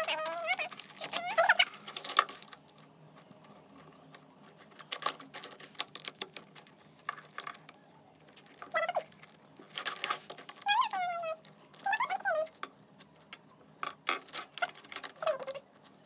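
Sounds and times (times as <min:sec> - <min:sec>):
plastic toy parts clicking: 0:00.0 - 0:15.9.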